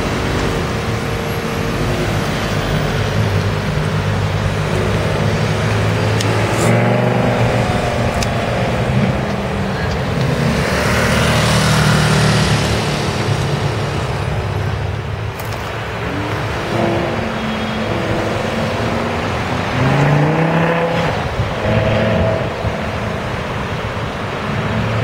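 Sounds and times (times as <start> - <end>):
sports car engine revving: 0.0 - 25.0.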